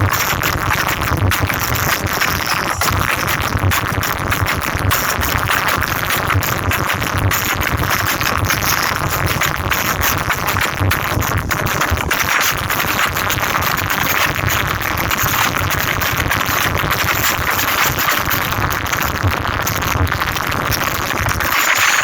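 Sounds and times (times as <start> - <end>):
loud distorted electronic music: 0.0 - 22.0
pulsing bass: 0.0 - 22.0.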